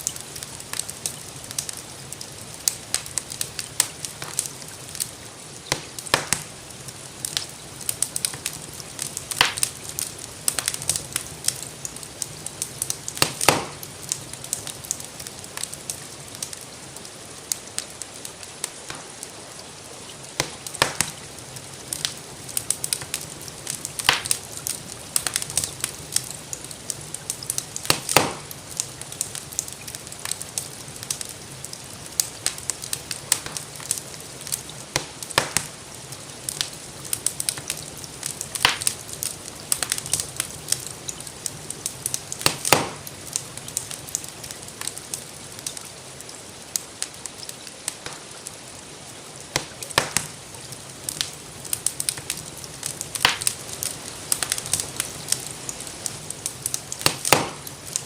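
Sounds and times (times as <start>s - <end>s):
gentle rain hiss: 0.0s - 58.0s
wood fire crackling: 0.0s - 58.0s.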